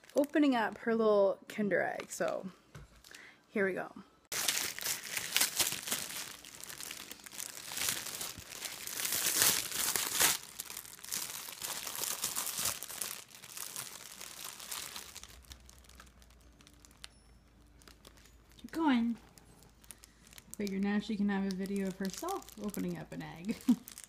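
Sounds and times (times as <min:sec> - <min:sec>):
foil wrapper crinkling and tearing: 0:00.0 - 0:00.6, 0:04.3 - 0:24.0.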